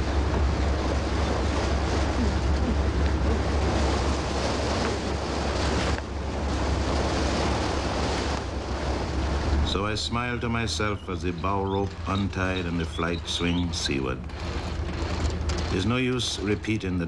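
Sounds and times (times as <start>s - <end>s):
wind and sea rushing: 0.0s - 17.0s.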